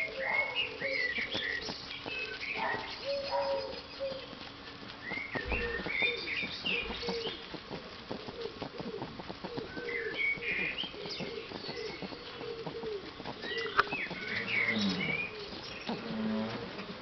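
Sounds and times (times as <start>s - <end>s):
rabbits chewing grass: 0.0s - 17.0s
small birds chirping: 0.0s - 17.0s.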